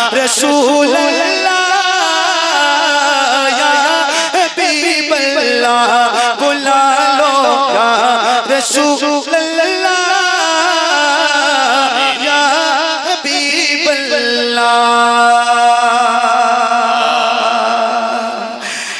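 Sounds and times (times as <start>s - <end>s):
man singing unaccompanied: 0.0s - 18.6s.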